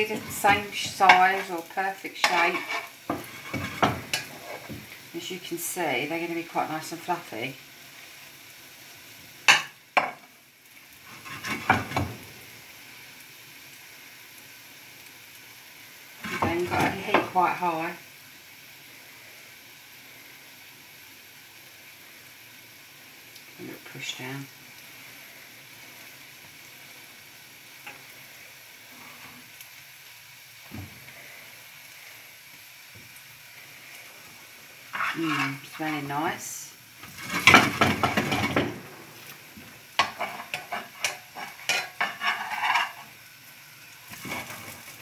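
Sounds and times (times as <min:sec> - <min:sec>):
pancakes sizzling in a frying pan: 0:00.0 - 0:45.0.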